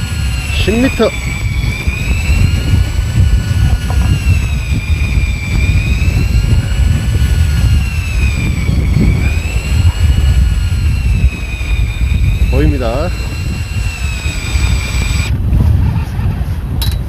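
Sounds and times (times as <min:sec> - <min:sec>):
boat engine rumbling with whine: 0:00.0 - 0:17.0.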